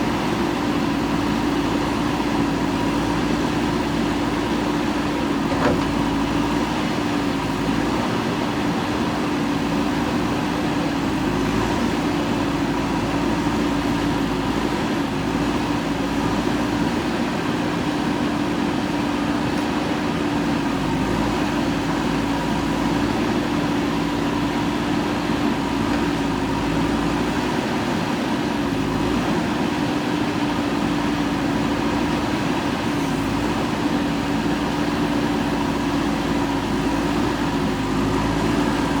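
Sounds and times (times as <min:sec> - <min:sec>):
constant machine whine: 0:00.0 - 0:39.0
diesel engine running: 0:00.0 - 0:39.0.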